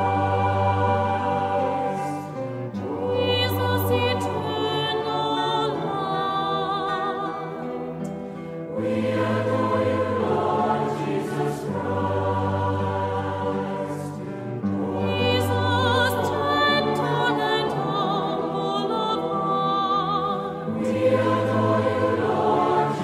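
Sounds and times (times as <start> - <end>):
choral music: 0.0 - 23.0.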